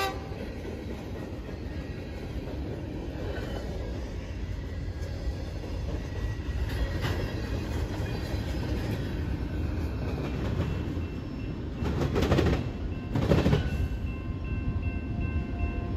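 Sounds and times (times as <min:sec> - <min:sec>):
steel wheels rumbling on rail: 0:00.0 - 0:15.9.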